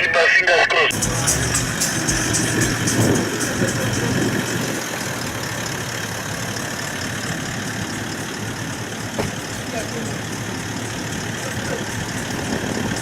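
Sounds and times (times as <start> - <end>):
engine running at low revs: 0.9 - 13.0.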